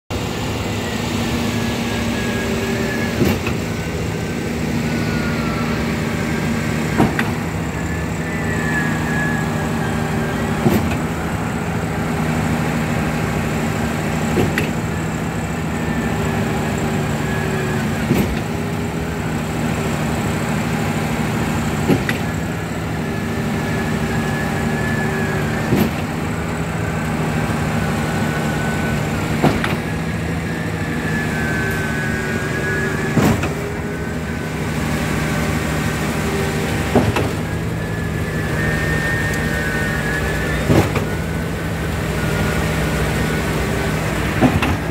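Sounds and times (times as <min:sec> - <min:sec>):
diesel engine hum: 0:00.0 - 0:44.9
hydraulic whine: 0:00.1 - 0:44.9.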